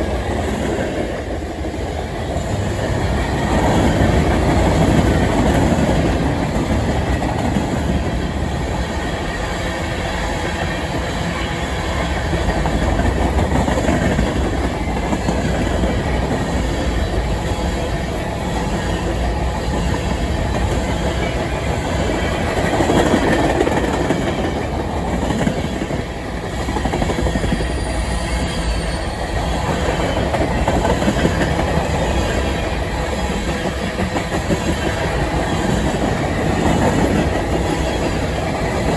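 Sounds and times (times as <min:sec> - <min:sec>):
freight train wheels on rail: 0:00.0 - 0:38.9.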